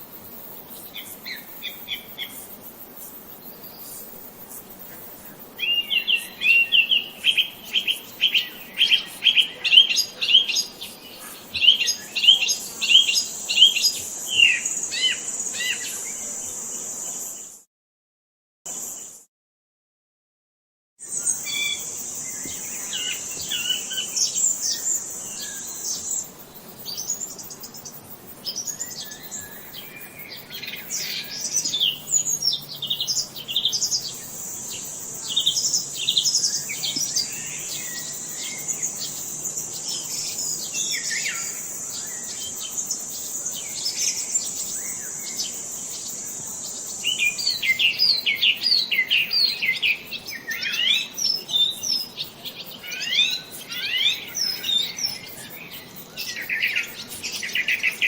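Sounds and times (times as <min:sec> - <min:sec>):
songbirds chirping and singing: 0:05.3 - 0:16.3, 0:21.2 - 0:58.0.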